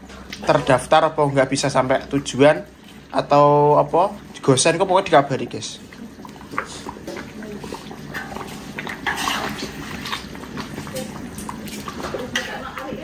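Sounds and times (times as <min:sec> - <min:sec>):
sauce bubbling and slopping: 0:00.0 - 0:13.0.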